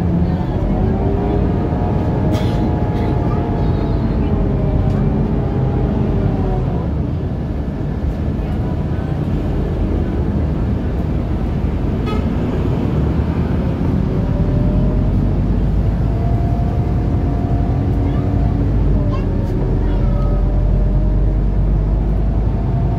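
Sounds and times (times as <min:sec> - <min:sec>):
bus engine and road rumble: 0:00.0 - 0:22.9.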